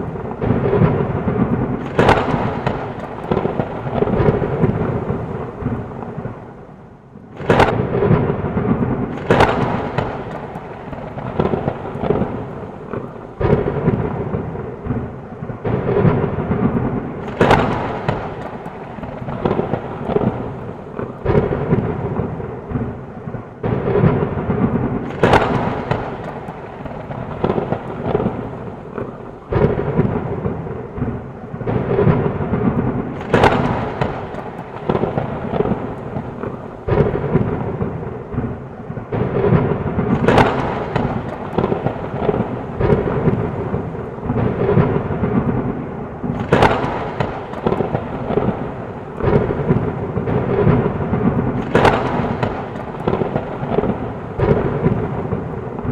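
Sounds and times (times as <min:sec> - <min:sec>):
heavy rain falling: 0:00.0 - 0:55.9
rumbling thunder: 0:00.0 - 0:55.9
sharp thunderclaps: 0:00.0 - 0:55.9.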